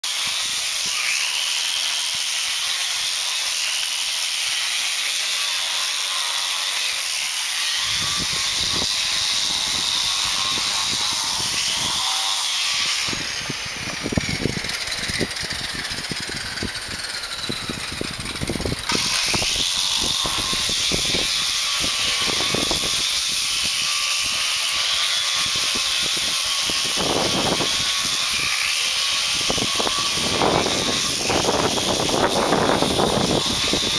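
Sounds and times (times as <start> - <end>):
electric disc grinder whining: 0.0 - 33.9.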